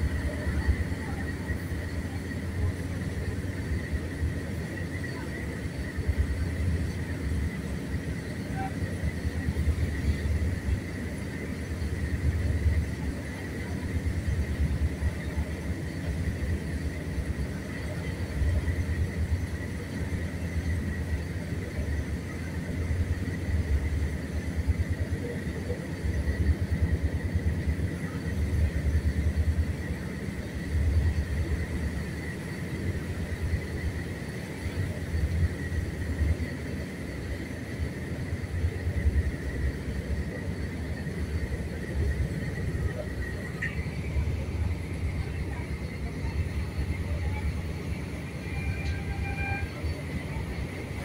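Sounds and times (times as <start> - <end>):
faint high hum: 0.0 - 51.0
train wheels rumbling: 0.0 - 51.0.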